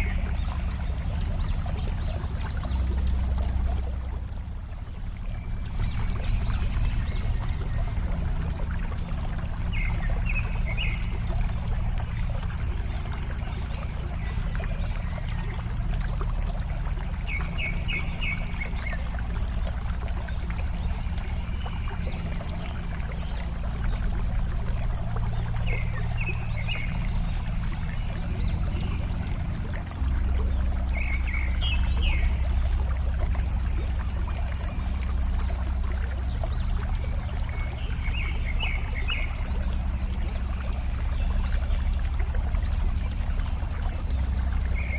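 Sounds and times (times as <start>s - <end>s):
water flowing and trickling: 0.0s - 44.9s.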